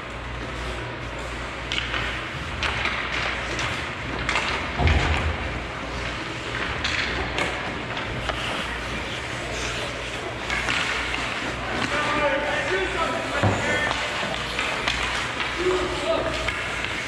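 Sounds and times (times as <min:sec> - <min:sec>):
hockey sticks and puck clacking: 0:00.4 - 0:17.0
skates scraping ice: 0:00.4 - 0:17.0.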